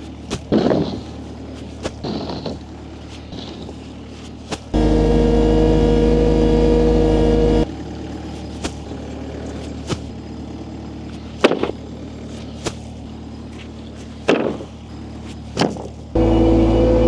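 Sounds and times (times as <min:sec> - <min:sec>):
loud engine running: 0:00.0 - 0:17.0
low machinery hum: 0:00.0 - 0:17.0.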